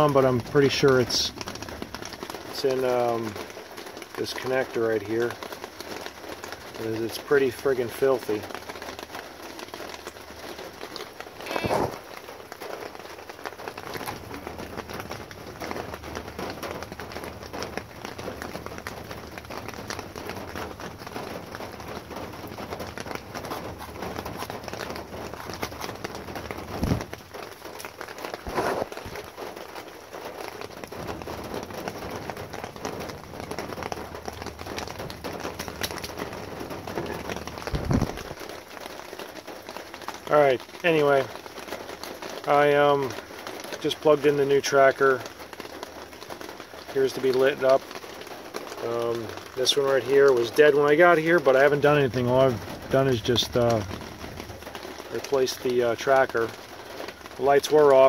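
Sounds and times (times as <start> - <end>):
rain on a vehicle roof: 0.0 - 58.0.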